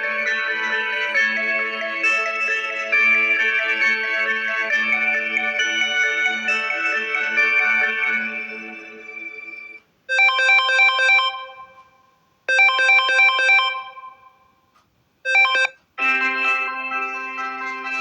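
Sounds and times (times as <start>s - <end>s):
chiming phone ringtone: 0.0s - 14.6s, 15.3s - 18.0s
ringtone with held notes: 0.0s - 14.6s, 15.3s - 18.0s.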